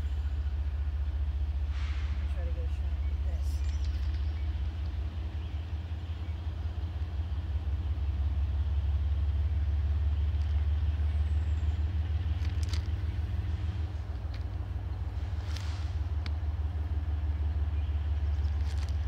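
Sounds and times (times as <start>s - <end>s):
locomotive low rumble: 0.0s - 19.0s.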